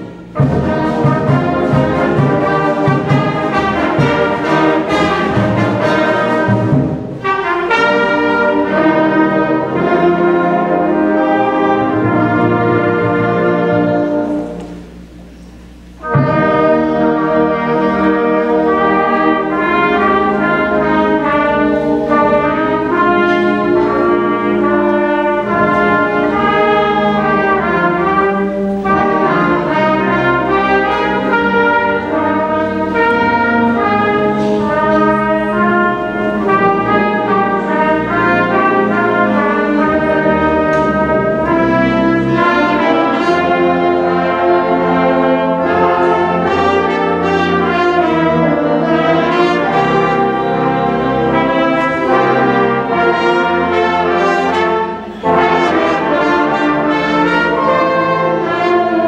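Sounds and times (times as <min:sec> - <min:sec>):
concert band playing: 0:00.0 - 0:59.0.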